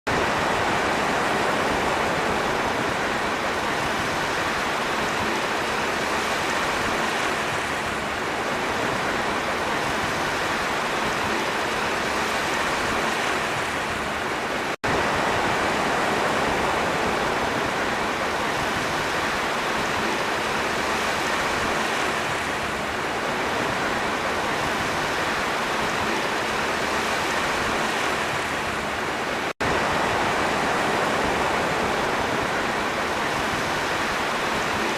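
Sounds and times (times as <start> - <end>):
sea waves rushing: 0.0 - 34.9.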